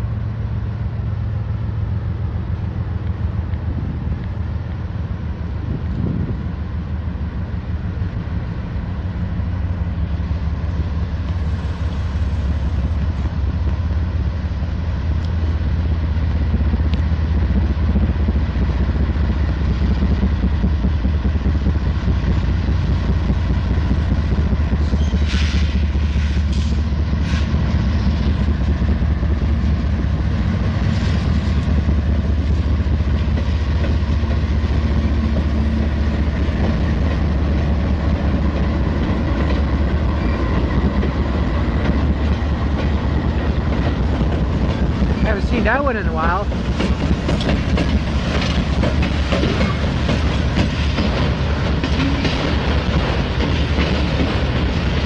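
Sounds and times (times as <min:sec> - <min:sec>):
diesel locomotive engine rumbling: 0:00.0 - 0:55.0.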